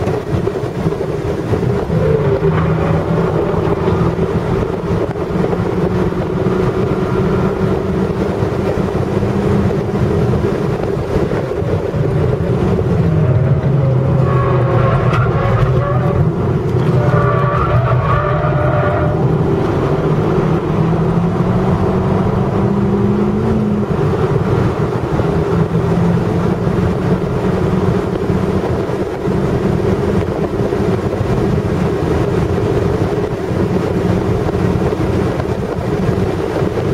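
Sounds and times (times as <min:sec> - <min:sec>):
car engine accelerating: 0:00.0 - 0:36.9
wind and road noise: 0:00.0 - 0:36.9.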